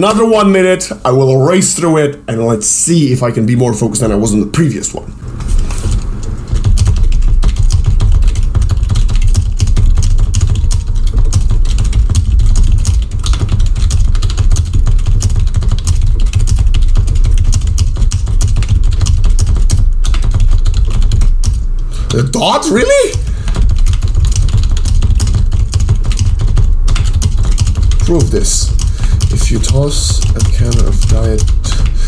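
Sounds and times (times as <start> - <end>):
fast keyboard typing: 5.3 - 32.0.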